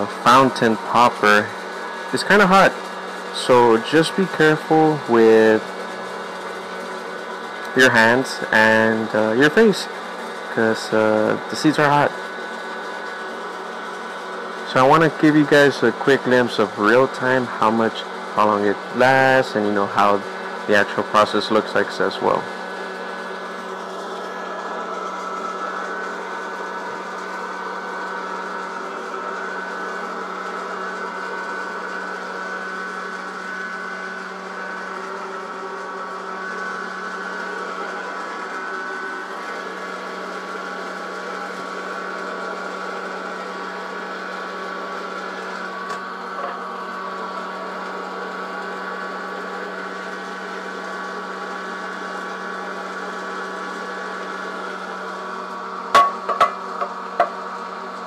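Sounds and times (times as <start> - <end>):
popcorn popper fan humming: 0.0 - 58.0.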